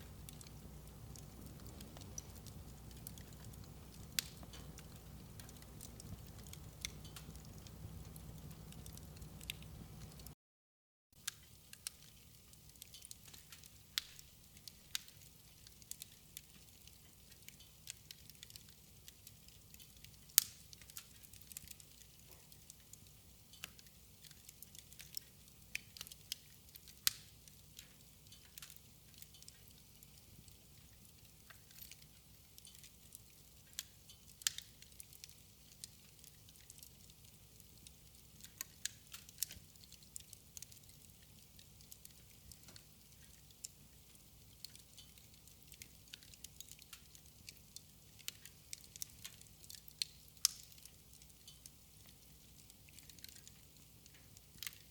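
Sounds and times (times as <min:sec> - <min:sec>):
wood fire crackling and popping: 0:00.0 - 0:10.4, 0:11.2 - 0:54.9.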